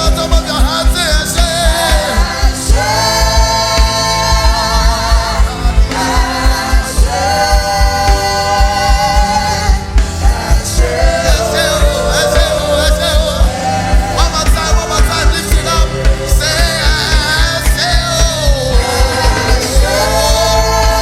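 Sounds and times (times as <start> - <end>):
bass drum beat: 0.0 - 21.0
live band playing: 0.0 - 21.0
voices singing long notes: 0.0 - 21.0.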